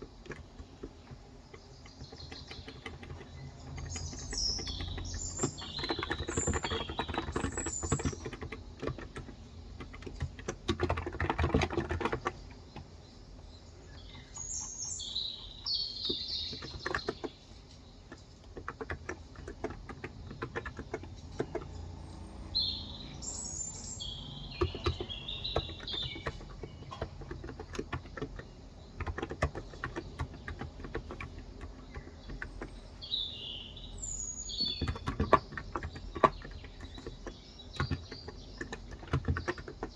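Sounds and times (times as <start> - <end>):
keyboard typing: 0.1 - 13.0, 14.2 - 39.9
bird chirps: 1.6 - 9.1, 11.2 - 39.9.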